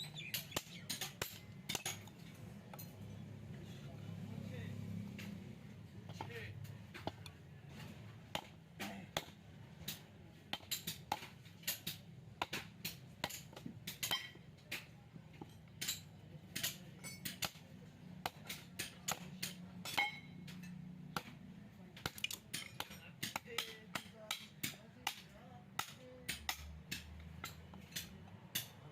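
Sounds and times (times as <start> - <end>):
hand tools tapping metal: 0.0 - 3.2, 6.1 - 21.3, 22.0 - 28.9.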